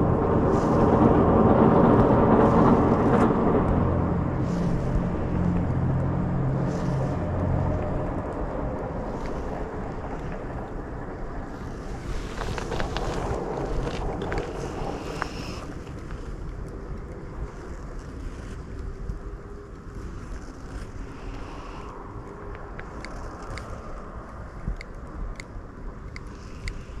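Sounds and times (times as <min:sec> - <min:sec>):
low engine hum: 0:00.0 - 0:27.0
wind buffeting microphone: 0:00.0 - 0:27.0.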